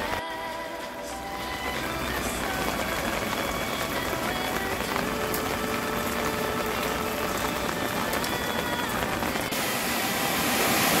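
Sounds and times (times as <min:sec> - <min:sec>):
rain falling on street: 0:00.0 - 0:11.0.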